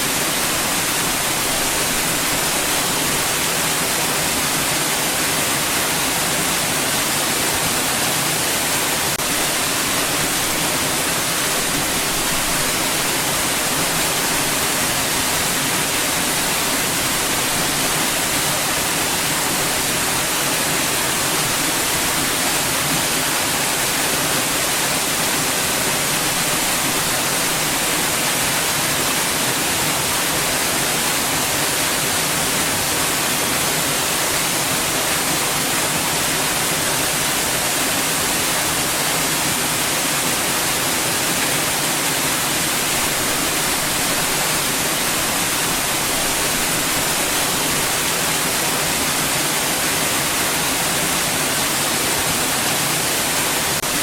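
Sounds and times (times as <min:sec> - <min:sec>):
steady broadband hiss: 0:00.0 - 0:54.0.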